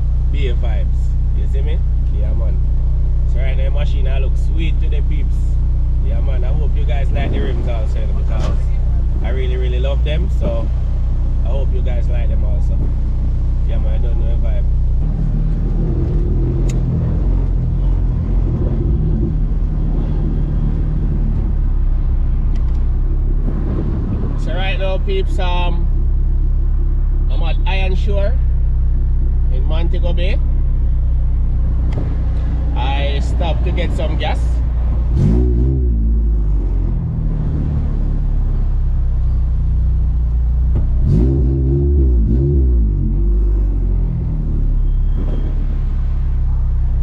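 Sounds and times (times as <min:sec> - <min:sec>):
car engine droning: 0:00.0 - 0:47.0.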